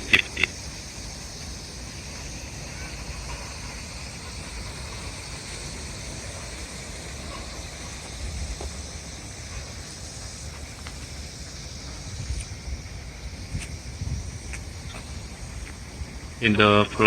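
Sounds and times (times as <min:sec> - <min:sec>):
even hiss: 0:00.0 - 0:17.0
low fluctuating rumble: 0:00.0 - 0:17.0.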